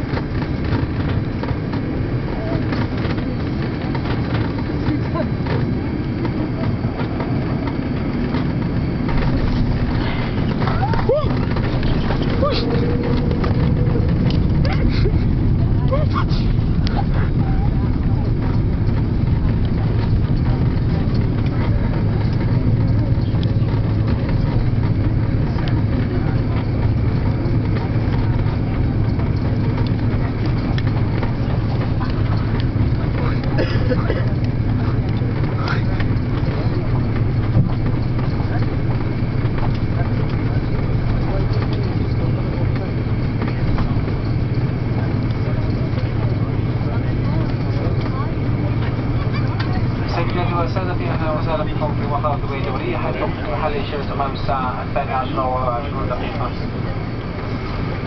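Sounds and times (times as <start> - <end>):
engine and airflow rumble: 0.0 - 58.0.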